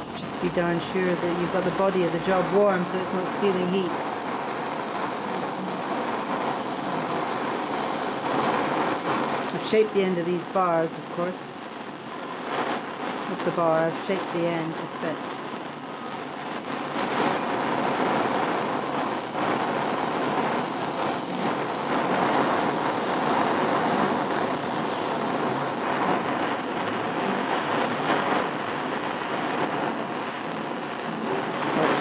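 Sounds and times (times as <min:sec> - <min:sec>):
blowtorch flame rushing: 0:00.0 - 0:32.0.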